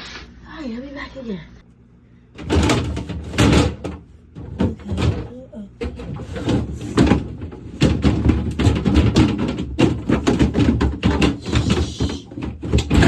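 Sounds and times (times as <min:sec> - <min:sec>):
rubbing and knocking on plastic: 0:02.4 - 0:13.0.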